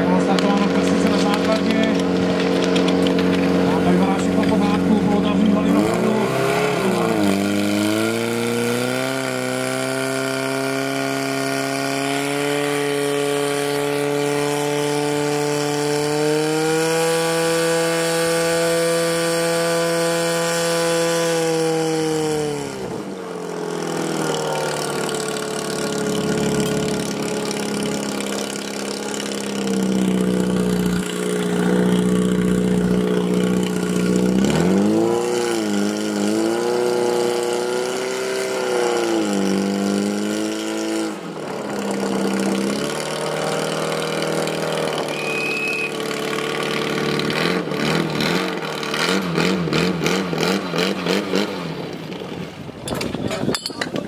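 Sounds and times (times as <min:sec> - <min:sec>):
fire pump engine revving: 0:00.0 - 0:53.2.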